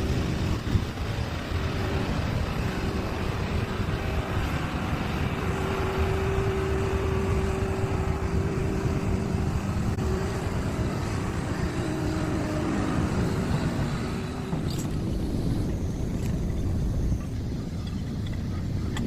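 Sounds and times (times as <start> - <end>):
excavator diesel engine running: 0.0 - 19.0
hydraulic whine: 0.0 - 19.0.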